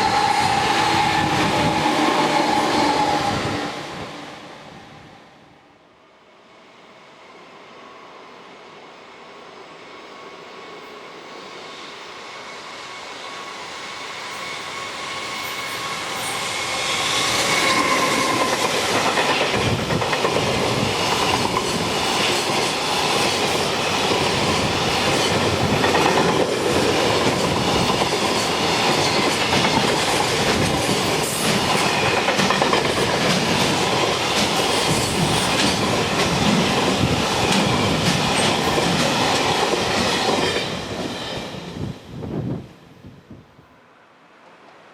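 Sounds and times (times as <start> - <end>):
train passing: 0.0 - 44.9.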